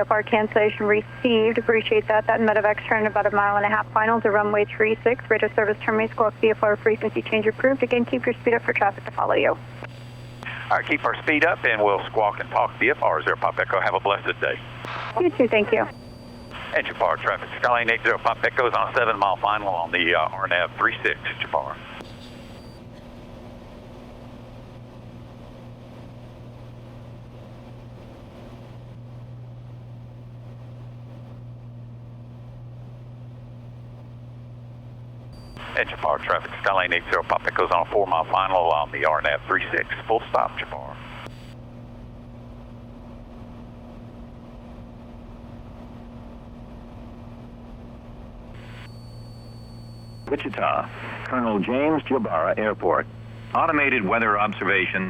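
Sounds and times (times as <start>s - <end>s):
airplane engine and propeller droning: 0.0s - 55.0s.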